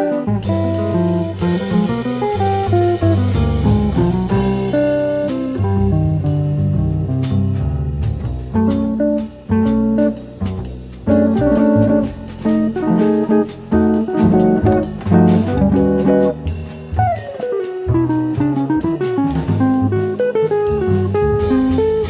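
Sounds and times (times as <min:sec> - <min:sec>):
drums with cymbals: 0:00.0 - 0:22.0
jazz guitar: 0:00.0 - 0:22.0
walking bass: 0:00.0 - 0:22.0.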